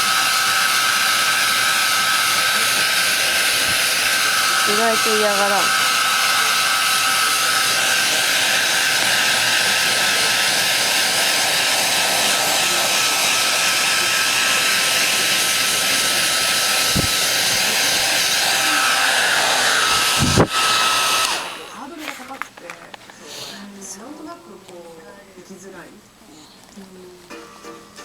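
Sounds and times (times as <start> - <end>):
hair dryer running: 0.0 - 23.2.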